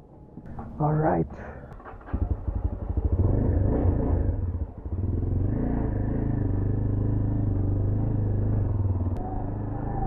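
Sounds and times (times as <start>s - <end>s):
motorcycle engine running: 1.4s - 10.0s.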